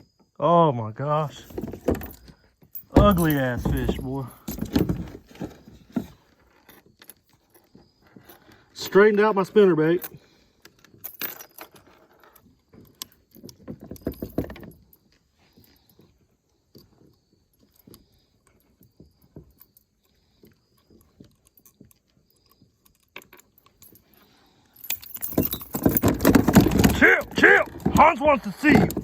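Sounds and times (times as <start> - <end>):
light knocks and metallic clinks: 1.2 - 29.0.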